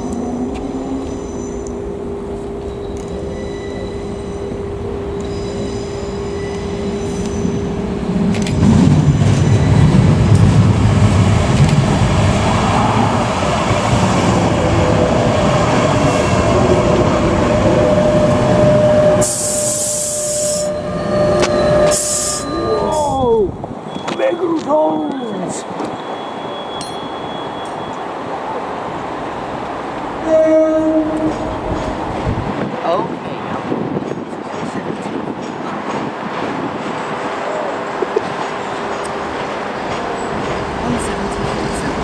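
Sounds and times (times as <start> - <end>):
tram whine and rail rumble: 0.0 - 42.0.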